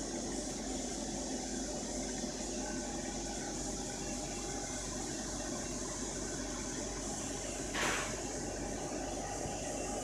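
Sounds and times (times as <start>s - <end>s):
cooling fan whirring: 0.0s - 10.0s.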